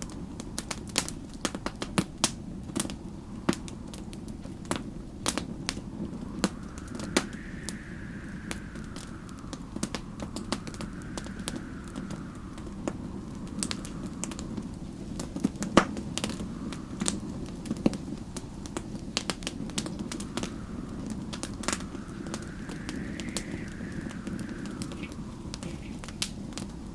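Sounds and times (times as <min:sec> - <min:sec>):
wind howling in gusts: 0:00.0 - 0:26.9
wood fire crackling: 0:00.0 - 0:26.9.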